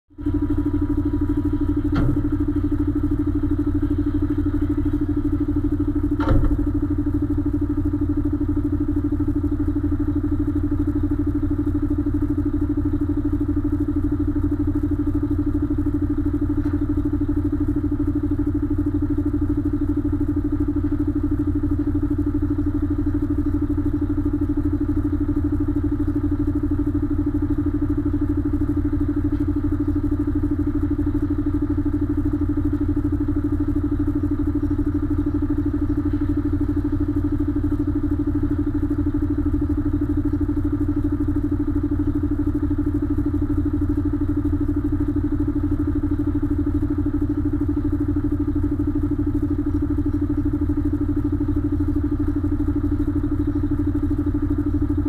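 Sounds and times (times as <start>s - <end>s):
diesel truck engine idling: 0.2s - 55.0s.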